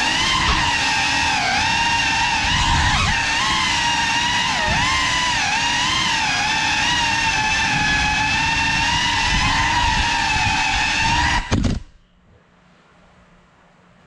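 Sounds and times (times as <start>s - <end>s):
rush of prop wash: 0.0s - 11.5s
drone motors whining: 0.0s - 12.0s.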